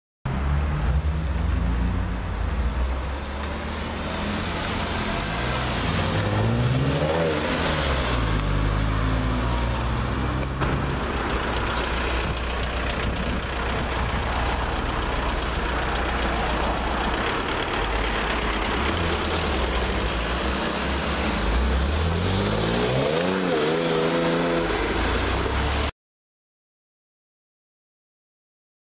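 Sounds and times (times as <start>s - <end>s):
car engine idling and revving: 0.3s - 25.9s.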